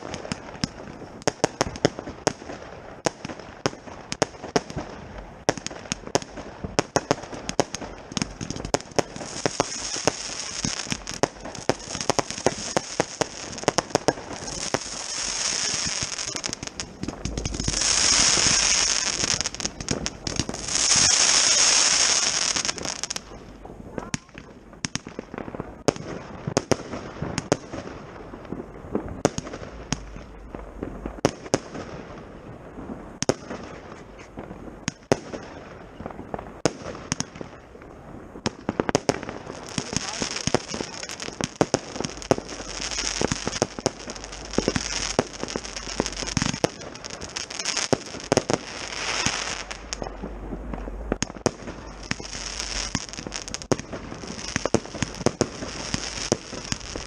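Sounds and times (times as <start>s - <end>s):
firework bangs and crackling: 0.0s - 57.0s
firework battery firing with hissing: 0.0s - 57.0s.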